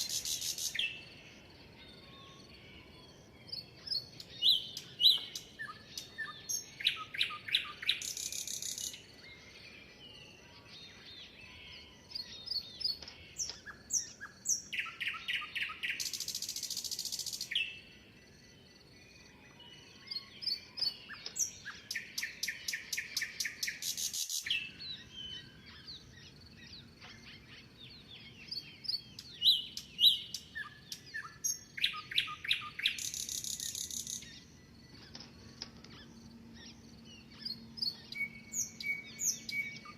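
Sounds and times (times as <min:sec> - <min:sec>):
soft bird chirps: 0:00.0 - 0:39.9
songbird singing buzzy trill: 0:00.0 - 0:39.9.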